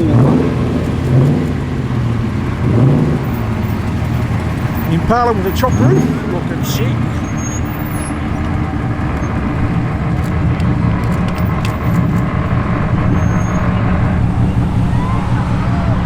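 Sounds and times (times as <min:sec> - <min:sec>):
car engine running low: 0:00.0 - 0:16.0.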